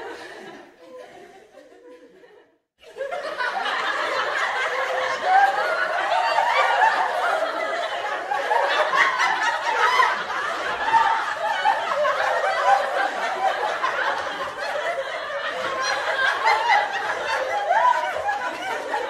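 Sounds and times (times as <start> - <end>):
people laughing: 0.0 - 19.0.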